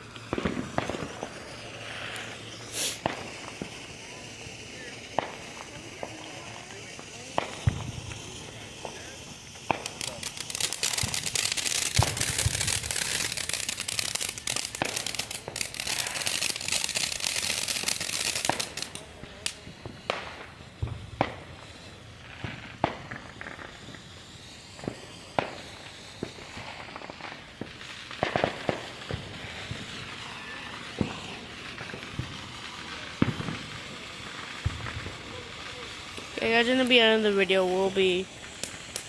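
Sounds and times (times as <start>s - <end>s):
fireworks hissing crackle: 0.0s - 39.0s
fireworks popping and cracking: 0.0s - 39.0s.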